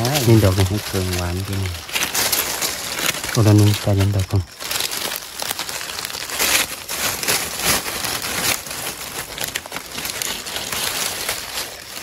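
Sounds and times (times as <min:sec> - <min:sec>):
dry leaves crunching: 0:00.0 - 0:12.0.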